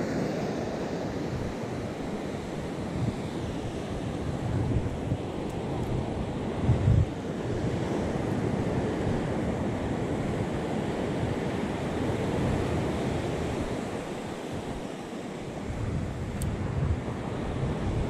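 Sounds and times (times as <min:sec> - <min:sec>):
wind buffeting microphone: 0:00.4 - 0:18.0.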